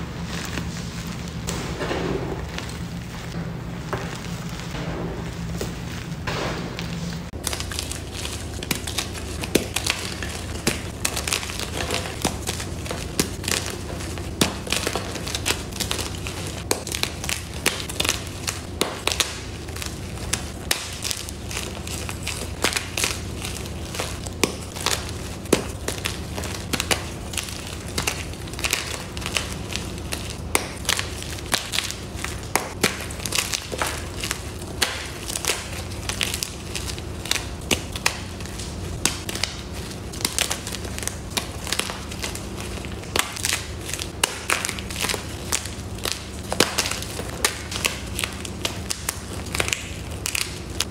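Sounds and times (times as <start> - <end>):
hands crushing chalk blocks: 5.5 - 50.9.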